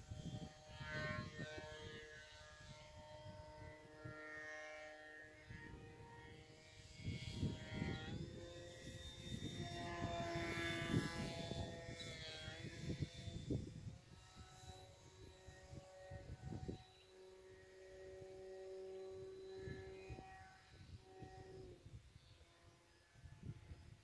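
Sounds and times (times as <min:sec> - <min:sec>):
wind buffeting microphone: 0:00.0 - 0:04.2, 0:06.8 - 0:22.4
electric motor whining: 0:00.0 - 0:24.0.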